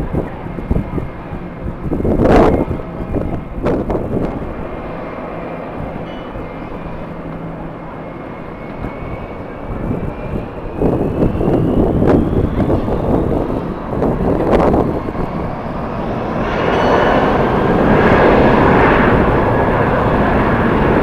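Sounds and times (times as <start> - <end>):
high engine whine: 0.0 - 21.0
jet engines running: 0.0 - 21.0
wind buffeting microphone: 0.0 - 21.0.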